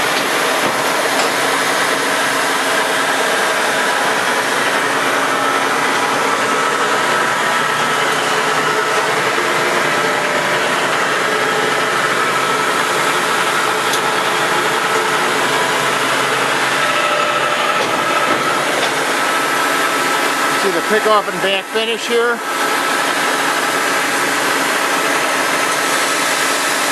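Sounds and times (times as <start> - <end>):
screw machine running: 0.0 - 26.9.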